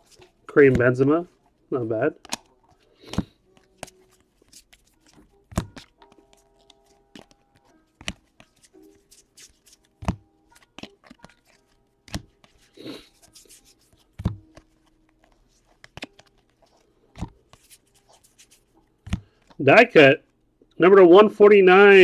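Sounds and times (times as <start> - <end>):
cards rustling and sliding: 0.0 - 19.6
cards tapping down: 0.1 - 1.1, 2.1 - 19.6.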